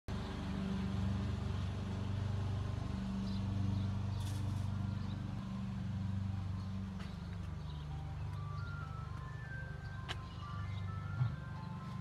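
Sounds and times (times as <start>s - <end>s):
truck engine humming: 0.1s - 12.0s.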